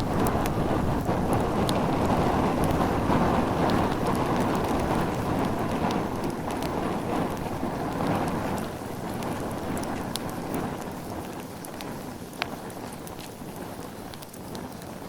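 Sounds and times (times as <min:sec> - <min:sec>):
bonfire flames roaring: 0:00.0 - 0:15.0
fire crackles and pops: 0:00.0 - 0:15.0.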